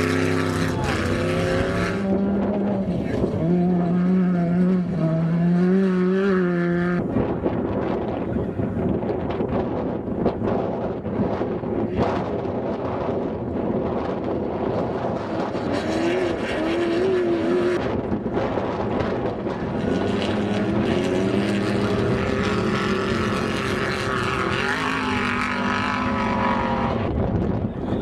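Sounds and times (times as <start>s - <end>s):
race vehicle engines running hard: 0.0s - 28.0s.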